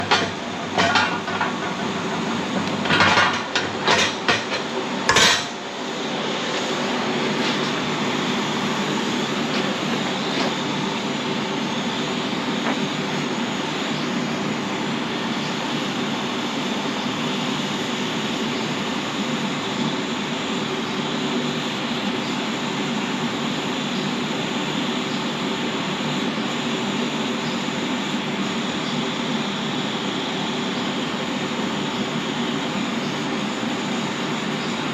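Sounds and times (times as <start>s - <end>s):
welding arc crackling hiss: 0.0s - 34.9s.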